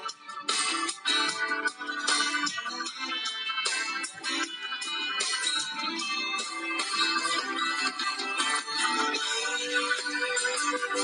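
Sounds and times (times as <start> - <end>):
bright instrumental music: 0.0 - 11.0.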